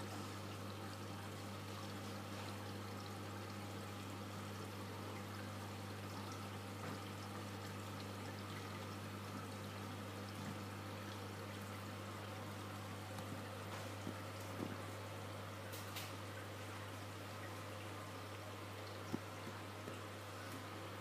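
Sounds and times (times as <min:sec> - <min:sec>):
low pump hum: 0:00.0 - 0:21.0
water pouring and trickling: 0:00.0 - 0:21.0.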